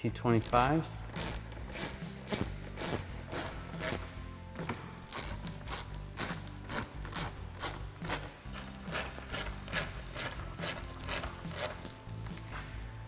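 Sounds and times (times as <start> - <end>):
hand ratchet clicking: 0.3 - 4.1, 5.1 - 12.0.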